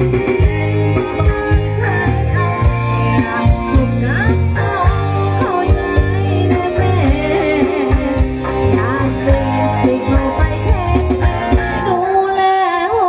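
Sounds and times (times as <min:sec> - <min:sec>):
live band with electric bass: 0:00.0 - 0:13.0
woman singing: 0:01.1 - 0:13.0.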